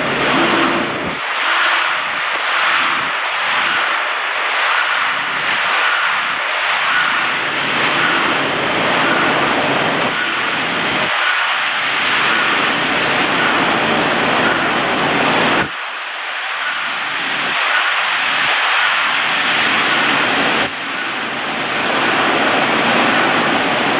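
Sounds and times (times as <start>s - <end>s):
welding machinery hiss: 1.0s - 23.9s.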